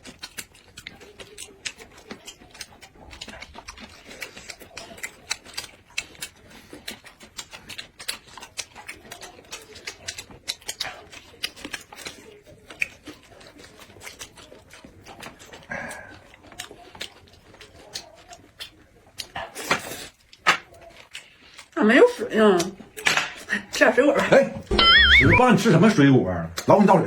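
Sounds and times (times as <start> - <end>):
chewing with lip smacks: 0.0 - 23.6.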